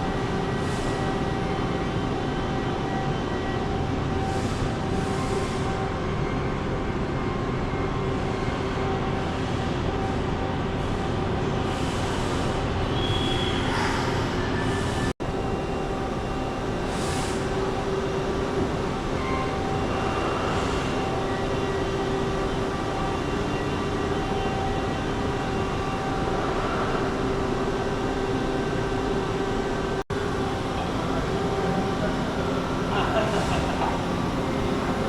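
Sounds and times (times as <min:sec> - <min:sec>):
machine running with humming tones: 0:00.0 - 0:35.0.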